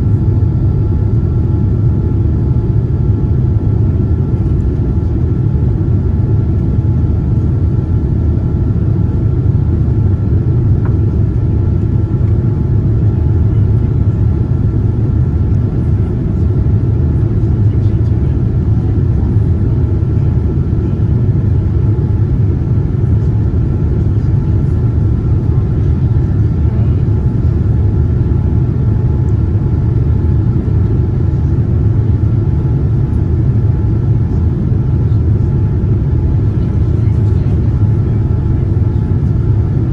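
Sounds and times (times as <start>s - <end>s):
airliner engines rumbling: 0.0s - 39.9s.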